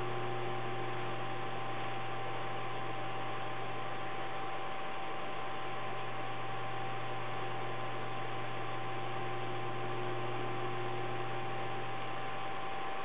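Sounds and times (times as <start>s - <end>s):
faint steady tones: 0.0s - 13.0s
low electrical hum: 0.0s - 13.0s.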